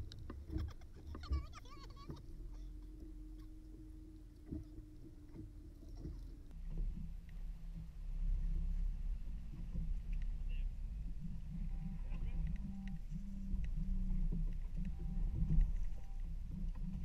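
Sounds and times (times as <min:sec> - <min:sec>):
steady low hum: 0:00.0 - 0:17.0
waves slapping against hull: 0:00.0 - 0:17.0.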